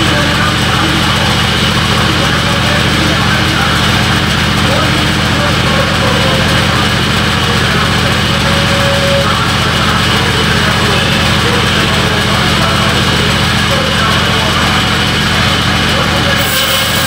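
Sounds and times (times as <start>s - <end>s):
band saw droning: 0.0s - 17.0s.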